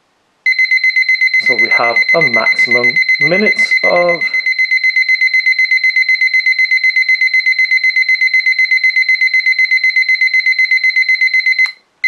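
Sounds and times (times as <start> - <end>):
kitchen timer high beeps: 0.5 - 11.8.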